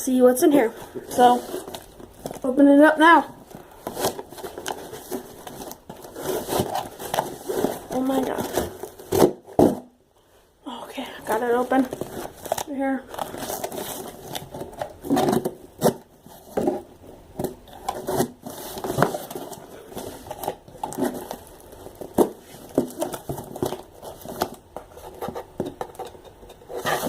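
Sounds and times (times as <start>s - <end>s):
cardboard box rustling and crinkling: 0.5s - 9.9s, 11.2s - 27.0s.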